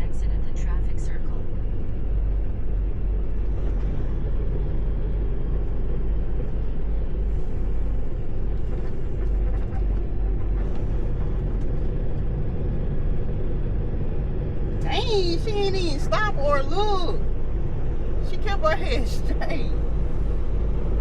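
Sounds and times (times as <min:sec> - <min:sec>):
diesel truck engine rumble: 0:00.0 - 0:21.0.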